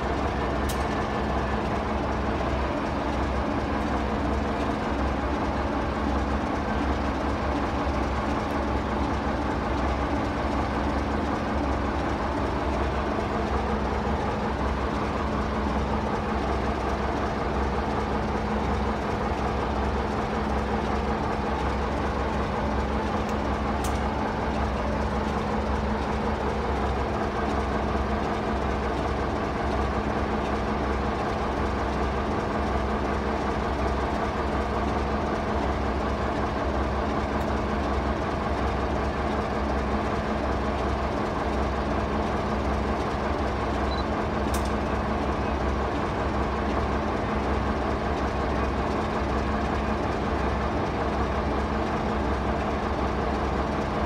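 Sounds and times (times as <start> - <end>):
diesel locomotive idling: 0.0 - 54.0.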